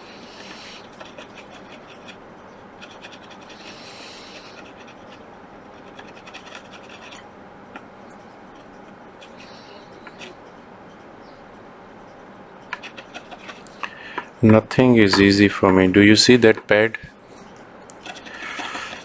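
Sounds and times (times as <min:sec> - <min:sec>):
scratching on a circuit board: 0:00.0 - 0:19.0.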